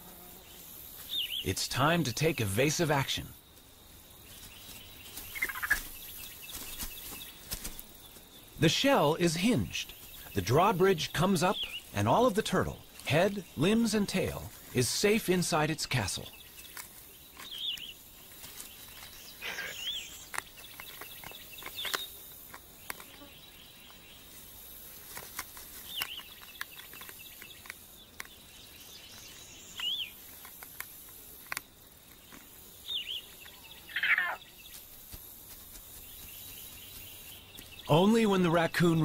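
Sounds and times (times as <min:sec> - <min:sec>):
insect hiss: 0:00.0 - 0:39.0
bird chirping: 0:00.4 - 0:03.2, 0:04.2 - 0:24.3, 0:25.8 - 0:30.5, 0:32.1 - 0:34.8, 0:36.0 - 0:39.0.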